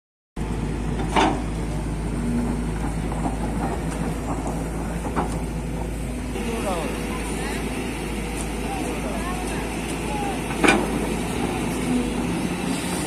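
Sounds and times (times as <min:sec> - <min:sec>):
excavator diesel engine running: 0:00.4 - 0:13.0.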